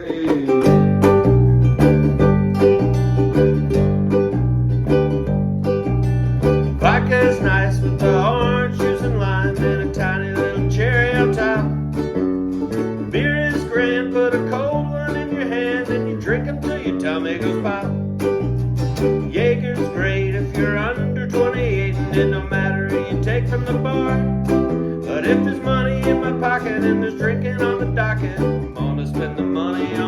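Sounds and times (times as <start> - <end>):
plucked guitar and ukulele: 0.0 - 30.0
wavering lead melody: 0.0 - 30.0
repeating bass line: 0.6 - 30.0.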